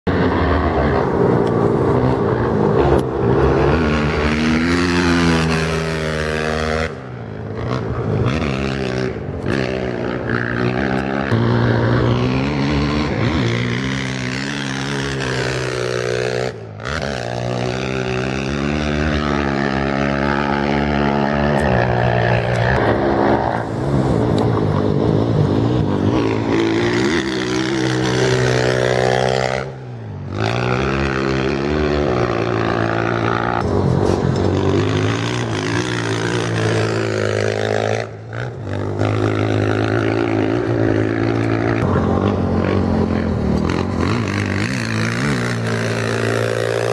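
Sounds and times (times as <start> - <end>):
motorcycles accelerating and revving: 0.0 - 46.9.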